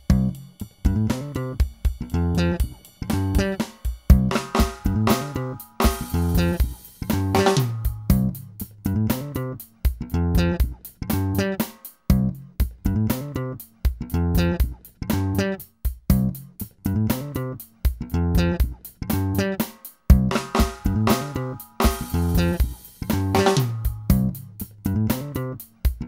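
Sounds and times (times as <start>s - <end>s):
plucked guitar and bass music: 0.0s - 26.0s.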